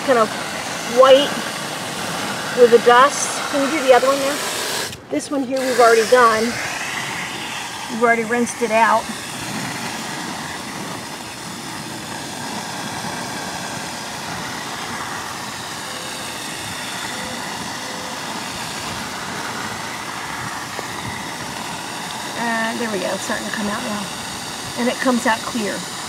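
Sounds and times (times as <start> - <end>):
hose water rushing into bucket: 0.0 - 26.0.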